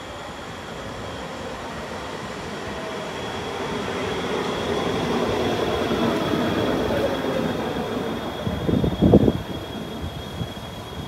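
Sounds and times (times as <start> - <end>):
electric train arriving: 0.0 - 11.0
high train whine: 0.0 - 11.0.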